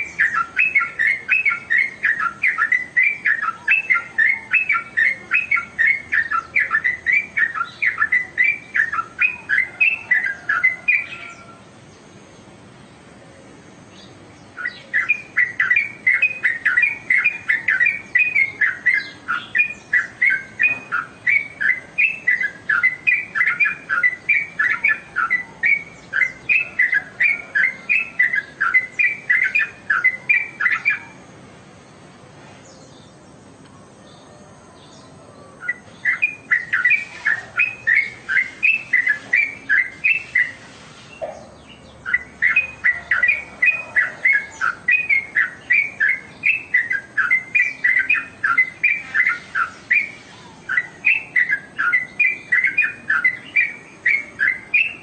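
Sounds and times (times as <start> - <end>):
bird singing bubbly notes: 0.0 - 11.5, 13.9 - 31.3, 35.6 - 40.6, 41.2 - 55.0.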